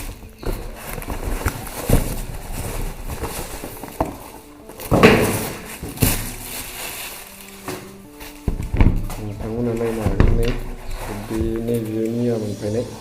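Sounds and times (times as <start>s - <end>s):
packaging rustling: 0.0s - 12.4s.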